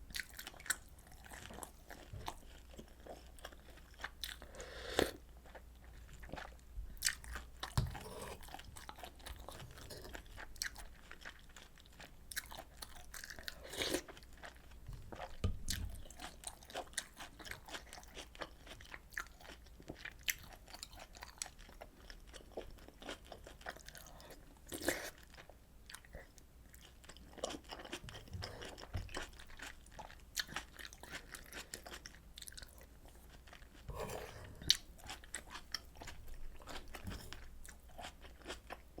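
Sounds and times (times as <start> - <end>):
person chewing food: 0.1 - 39.0.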